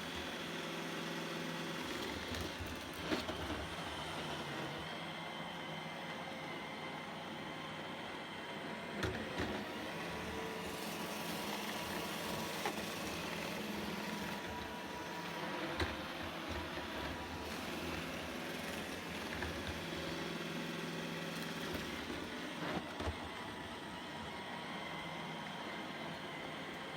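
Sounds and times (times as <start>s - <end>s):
robot vacuum running: 0.0s - 26.9s.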